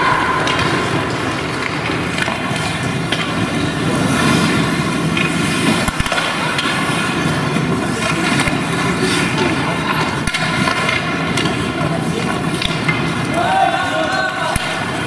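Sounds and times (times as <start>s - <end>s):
hockey sticks and puck clacking: 0.0s - 15.0s
skate blades scraping ice: 0.0s - 15.0s.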